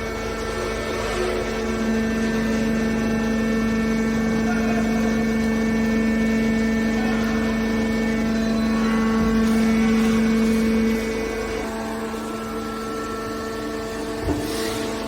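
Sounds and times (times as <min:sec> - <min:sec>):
hydraulic baler humming: 0:00.0 - 0:15.0.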